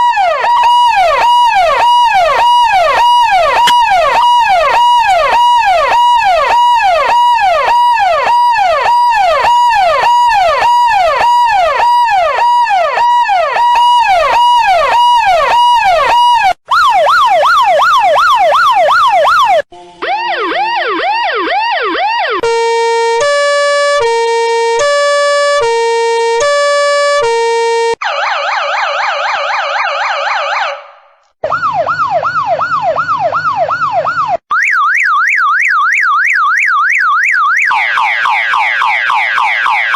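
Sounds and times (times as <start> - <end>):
harsh buzzy siren: 0.0 - 39.9
two-tone hi-lo siren: 0.0 - 39.9
yelp siren: 0.0 - 39.9.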